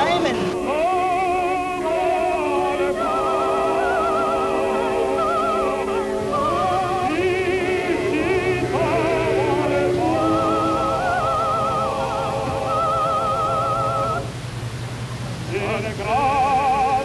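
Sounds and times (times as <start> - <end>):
opera singer with vibrato: 0.0 - 14.4, 15.4 - 17.0
sustained accompanying notes: 0.0 - 17.0.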